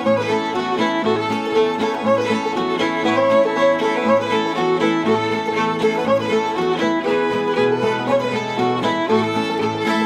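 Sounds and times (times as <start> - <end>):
banjo: 0.0 - 10.0
fiddles playing melody: 0.0 - 10.0
string band playing fiddle tune: 0.0 - 10.0.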